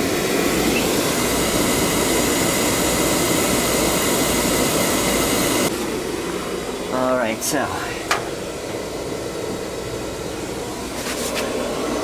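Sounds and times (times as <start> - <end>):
furnace blower rush of air: 0.0 - 12.0.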